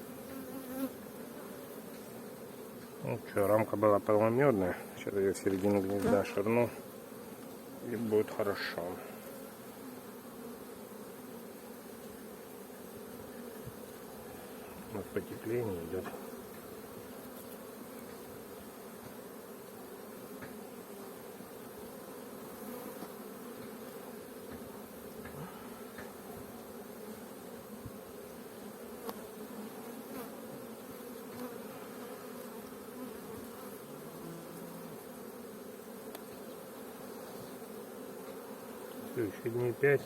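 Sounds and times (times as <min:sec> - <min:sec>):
bees humming: 0:00.0 - 0:40.0.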